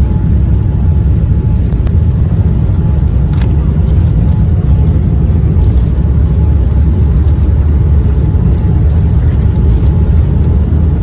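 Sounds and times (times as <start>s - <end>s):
airliner engines rumbling in cabin: 0.0s - 11.0s.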